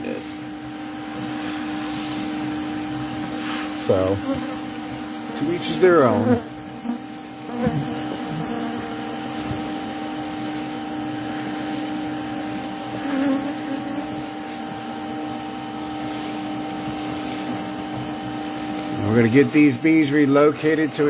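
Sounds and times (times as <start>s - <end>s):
honeybees buzzing: 0.0s - 21.0s
vacuum motor hum: 0.0s - 21.0s.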